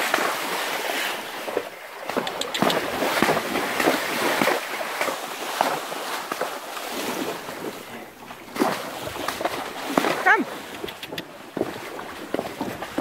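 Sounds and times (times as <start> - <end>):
hooves splashing through water: 0.0 - 13.0
stream water rushing: 0.0 - 13.0.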